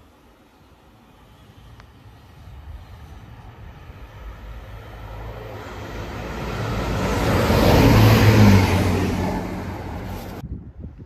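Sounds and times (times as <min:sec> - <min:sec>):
diesel train passing: 0:00.0 - 0:10.4.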